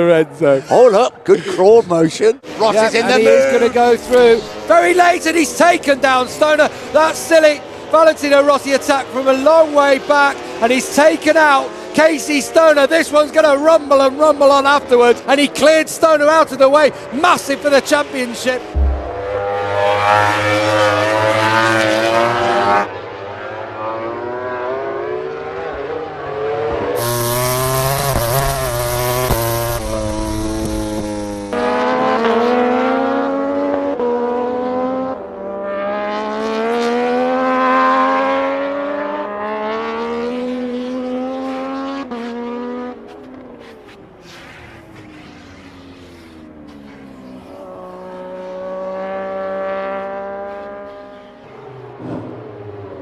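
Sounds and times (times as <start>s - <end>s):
racing motorcycle engines revving: 2.4s - 53.0s.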